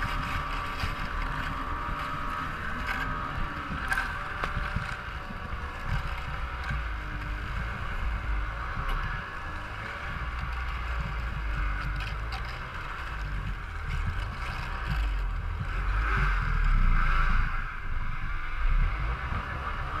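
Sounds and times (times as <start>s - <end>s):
rushing noise of riding: 0.0s - 20.0s
snowmobile engine running: 0.0s - 20.0s.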